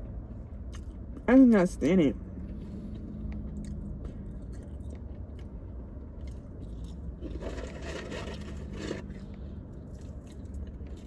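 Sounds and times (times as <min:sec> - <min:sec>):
person chewing crunchy food: 0:00.6 - 0:01.3, 0:02.4 - 0:11.0.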